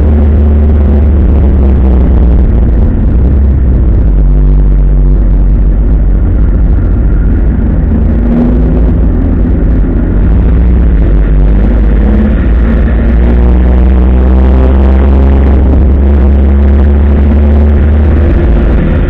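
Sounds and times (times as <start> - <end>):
racing car engine under load: 0.0 - 19.0.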